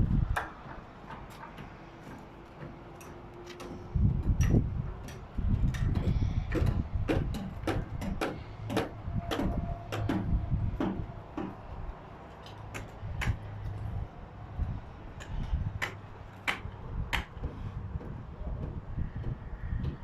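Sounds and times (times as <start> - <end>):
hammering on timber: 0.3 - 2.8, 3.6 - 11.8, 12.7 - 13.4, 15.2 - 20.0.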